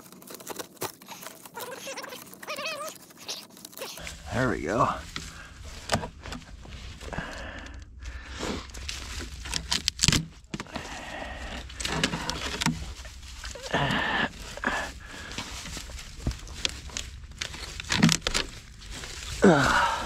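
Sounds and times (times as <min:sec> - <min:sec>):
scraping and rustling of roots and dirt: 0:00.0 - 0:20.0.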